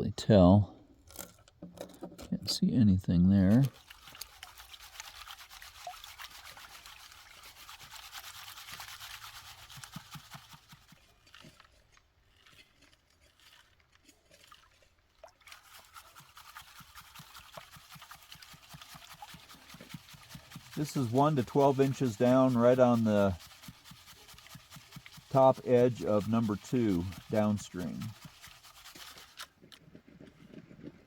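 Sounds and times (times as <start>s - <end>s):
sand and gravel rubbing: 3.2s - 14.9s, 15.8s - 31.0s
water trickling and splashing: 3.4s - 29.5s.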